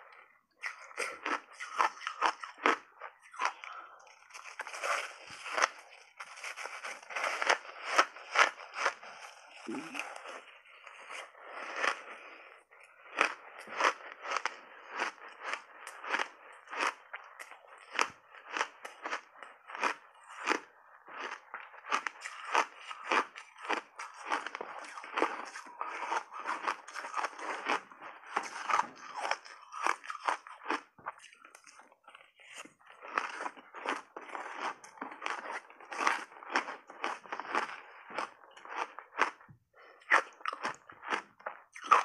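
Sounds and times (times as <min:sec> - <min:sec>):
ice crunching as chewed: 0:00.0 - 0:42.0.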